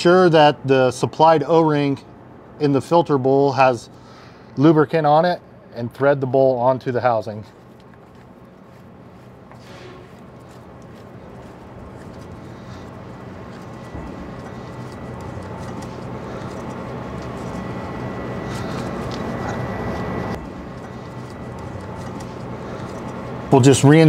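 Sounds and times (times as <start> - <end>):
mechanical hum with high whine: 0.0 - 24.0.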